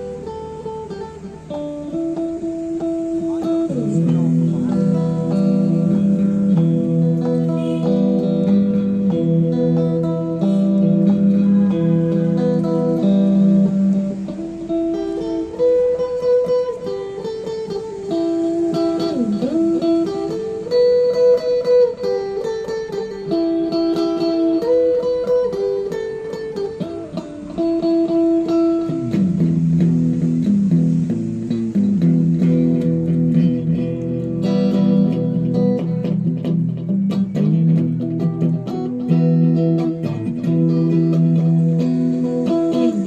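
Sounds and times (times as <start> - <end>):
instrumental background music: 0.0 - 43.0.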